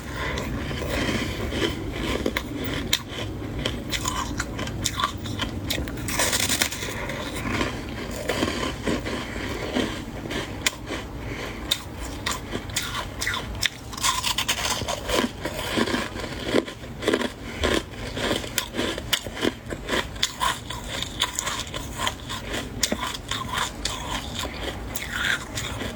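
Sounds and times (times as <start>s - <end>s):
frost crunching when chewed: 0.0s - 25.9s.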